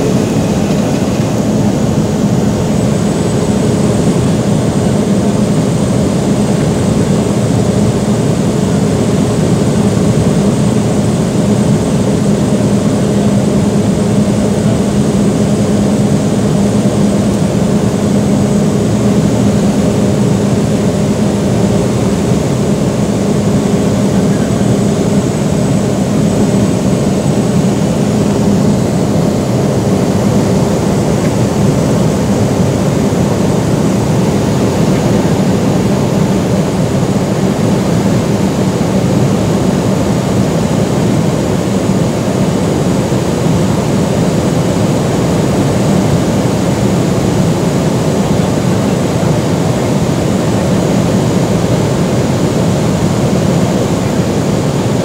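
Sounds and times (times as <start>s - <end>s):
faint high whine: 0.0s - 55.0s
propeller plane cabin drone: 0.0s - 55.0s.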